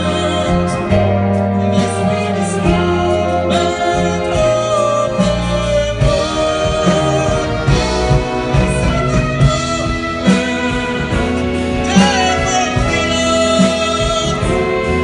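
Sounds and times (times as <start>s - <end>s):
big band playing a ballad: 0.0s - 15.0s
man singing into a microphone: 0.0s - 15.0s.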